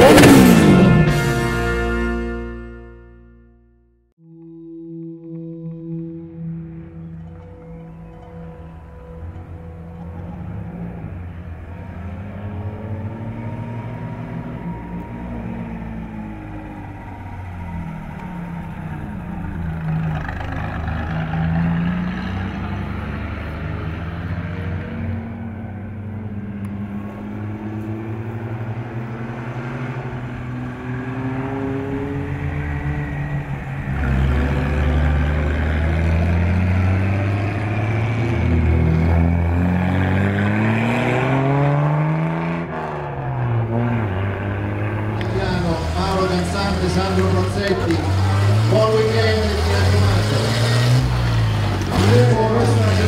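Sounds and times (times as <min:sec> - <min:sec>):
sports car engines revving: 0:00.0 - 0:02.4, 0:05.2 - 0:53.0.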